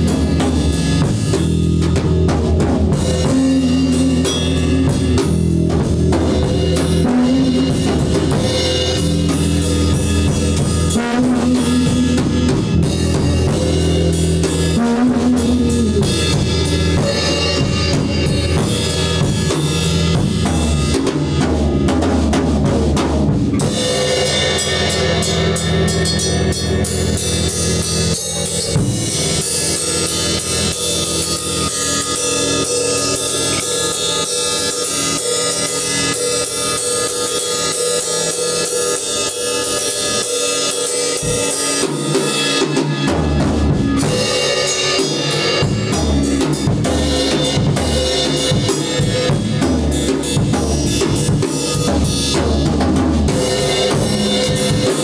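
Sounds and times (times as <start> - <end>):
deep bass: 0.0 - 37.1, 42.5 - 55.0
music with drum kit beat: 0.0 - 55.0.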